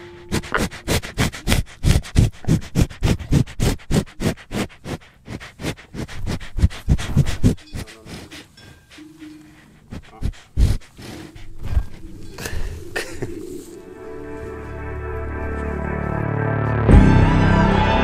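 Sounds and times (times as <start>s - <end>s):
cow sniffing: 0.0s - 16.0s.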